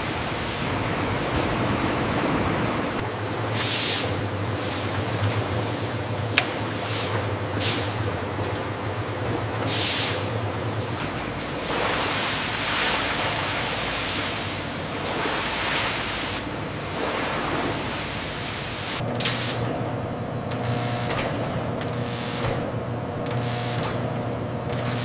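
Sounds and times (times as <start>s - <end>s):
factory machinery humming: 0.0s - 25.0s.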